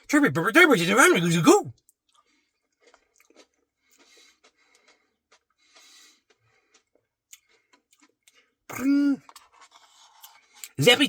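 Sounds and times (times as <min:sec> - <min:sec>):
chewing with soft crunches: 0:01.8 - 0:10.8.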